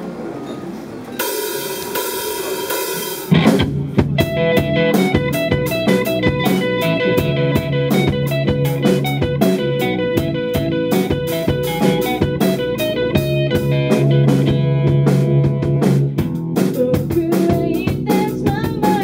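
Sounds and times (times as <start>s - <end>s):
rock band playing: 1.2s - 19.0s.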